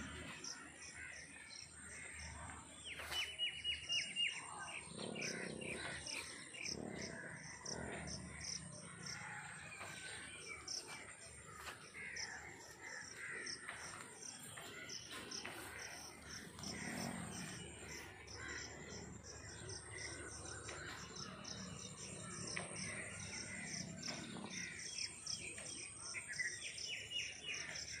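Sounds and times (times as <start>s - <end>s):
crows calling: 0.0s - 26.6s
birds chirping: 0.0s - 28.0s.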